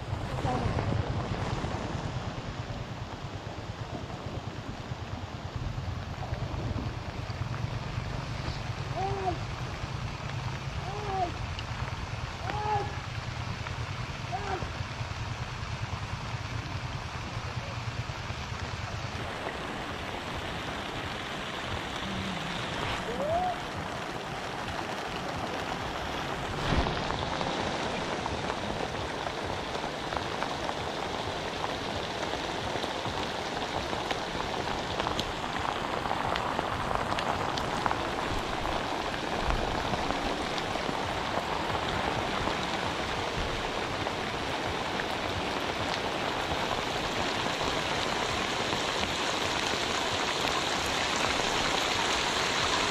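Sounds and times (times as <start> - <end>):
rain falling on river: 0.0 - 52.9.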